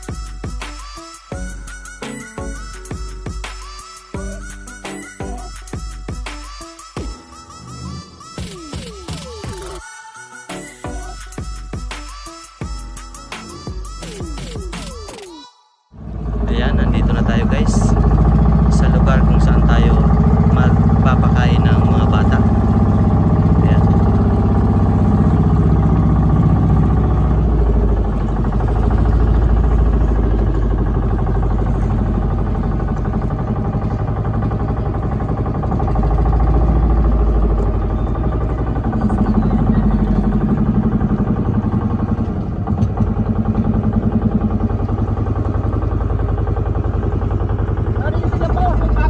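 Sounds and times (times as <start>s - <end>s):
motorboat engine running: 0.0s - 7.2s, 16.0s - 49.0s.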